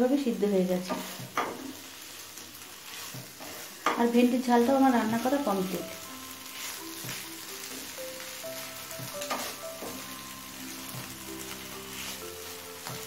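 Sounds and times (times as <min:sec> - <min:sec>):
okra sizzling in a frying pan: 0:00.0 - 0:13.0
soft background music: 0:00.0 - 0:13.0
wooden spatula scraping: 0:00.8 - 0:01.7, 0:02.6 - 0:07.9, 0:08.6 - 0:13.0.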